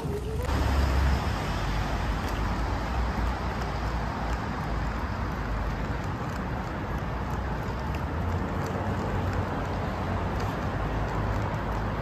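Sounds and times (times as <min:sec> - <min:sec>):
passing cars rumble: 0:00.0 - 0:12.0.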